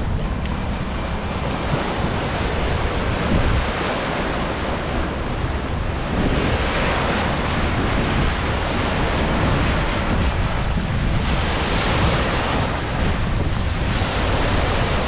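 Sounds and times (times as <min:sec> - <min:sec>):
surf breaking on shore: 0:00.0 - 0:15.0
wind buffeting microphone: 0:00.0 - 0:15.0.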